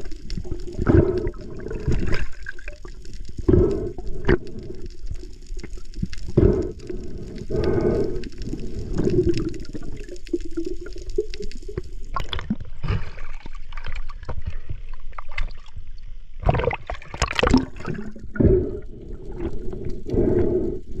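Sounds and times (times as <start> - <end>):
water gurgling and sloshing: 0.0 - 21.0.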